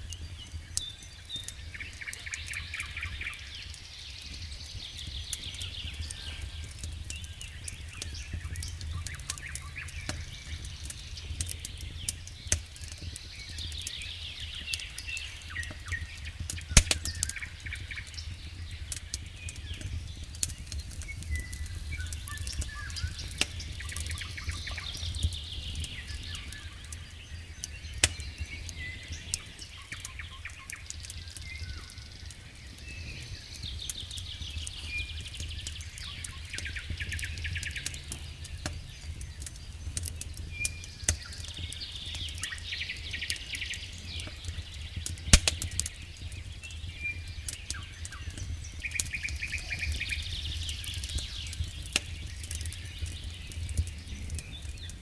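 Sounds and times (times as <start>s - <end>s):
campfire crackling and popping: 0.0s - 55.0s
songbirds trilling: 0.0s - 55.0s.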